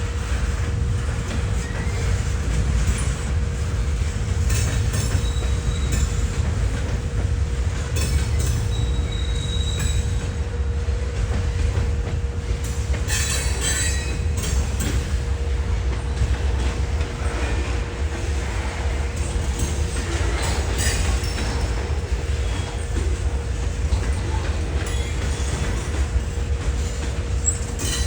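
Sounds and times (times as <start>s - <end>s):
train rumbling on rails: 0.0s - 28.0s
train wheel squeals: 1.0s - 28.0s.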